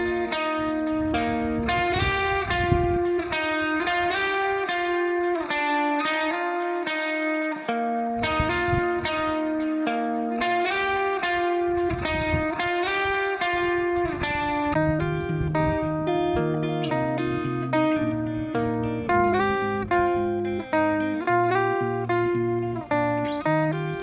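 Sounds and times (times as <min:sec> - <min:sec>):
guitar picking notes: 0:00.0 - 0:24.0.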